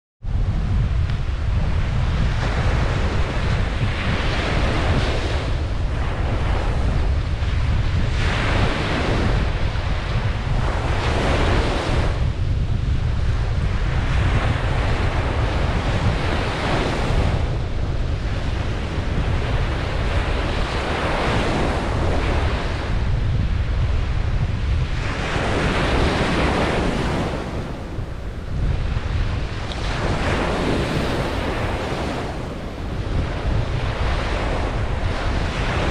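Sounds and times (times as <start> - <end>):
wind rumble on microphone: 0.2 - 35.9
ocean waves breaking on beach: 0.3 - 35.9.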